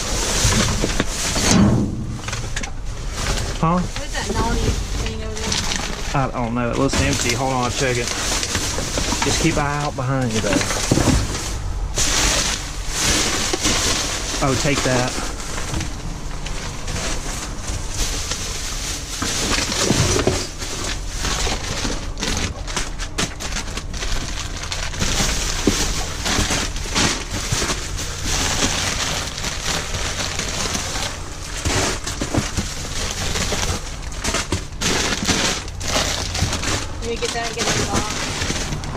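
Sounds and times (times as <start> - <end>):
steady low hum: 0.0 - 38.9
trash bags rustling and crackling: 0.0 - 38.9.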